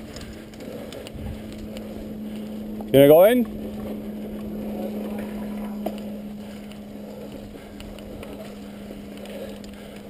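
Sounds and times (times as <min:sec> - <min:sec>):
bike rattles and clicks: 0:00.0 - 0:10.0
bike tyre rumble on dirt: 0:00.0 - 0:10.0
steady low hum: 0:00.0 - 0:10.0.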